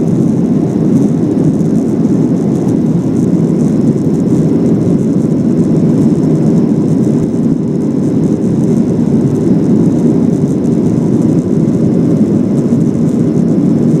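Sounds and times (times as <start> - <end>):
jet engines rumbling: 0.0 - 14.0
rushing air: 0.0 - 14.0.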